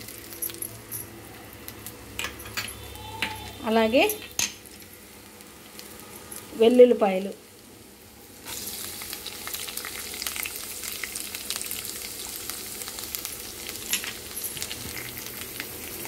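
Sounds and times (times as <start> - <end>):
garlic sizzling in hot oil: 0.0 - 0.6, 3.0 - 16.0.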